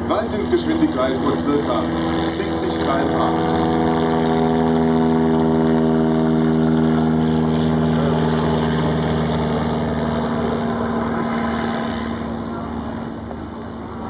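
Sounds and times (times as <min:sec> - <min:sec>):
aircraft propeller engine droning: 0:00.0 - 0:14.0.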